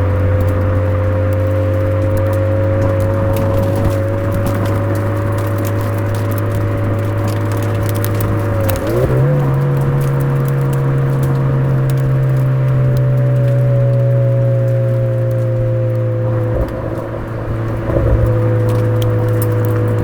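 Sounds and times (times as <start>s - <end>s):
car engine through exhaust: 0.0s - 20.0s.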